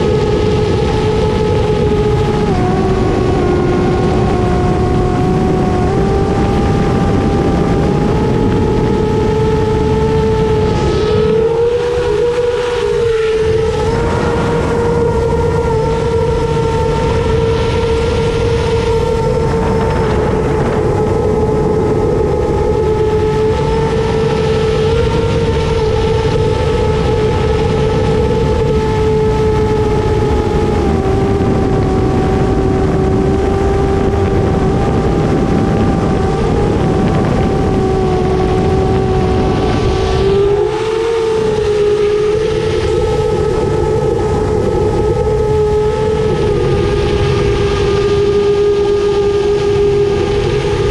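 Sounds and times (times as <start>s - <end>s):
quadcopter motors humming: 0.0s - 50.9s
rushing wind: 0.0s - 50.9s.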